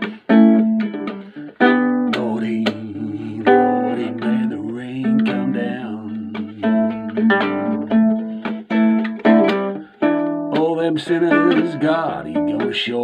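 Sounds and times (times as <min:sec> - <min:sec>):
nylon-string guitar strummed: 0:00.0 - 0:13.0.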